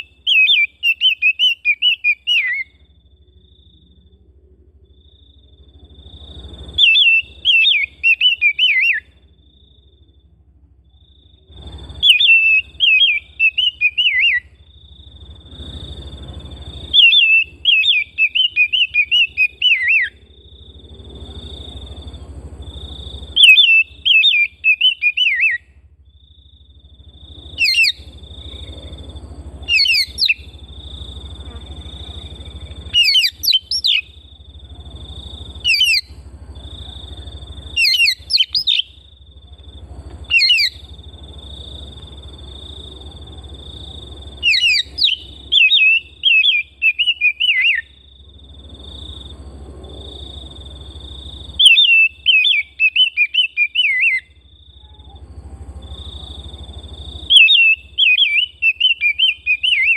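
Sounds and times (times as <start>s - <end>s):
bird singing: 0.0s - 10.3s, 10.9s - 59.9s
low hum: 2.2s - 52.8s.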